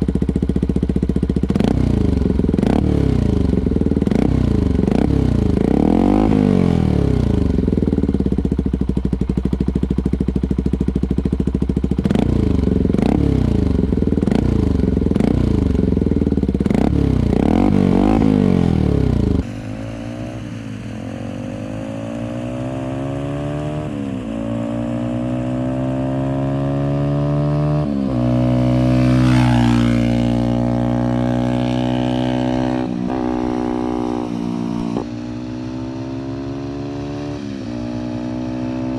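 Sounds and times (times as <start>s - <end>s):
motorcycle engine revving: 0.0s - 38.9s
motorcycle pulling away: 0.0s - 38.9s.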